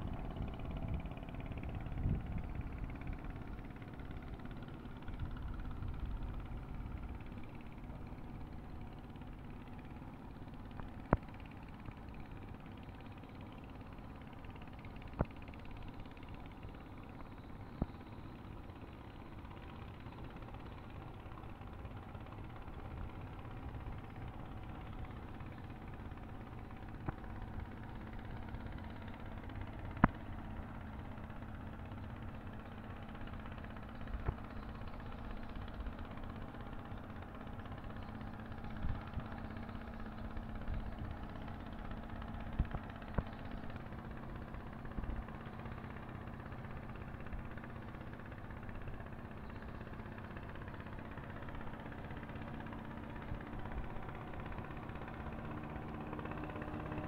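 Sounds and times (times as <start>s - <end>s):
boat engine idling: 0.0s - 57.0s.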